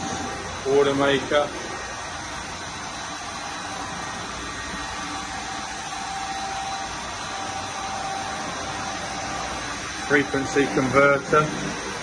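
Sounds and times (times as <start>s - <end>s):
engine room machinery rushing: 0.0s - 12.0s
faint steady whine: 0.0s - 12.0s.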